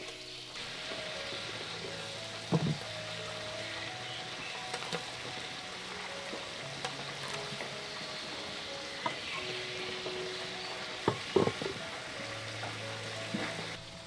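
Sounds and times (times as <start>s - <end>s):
utensil clacking against pan: 0.0s - 13.8s
food sizzling in a pan: 0.0s - 14.0s.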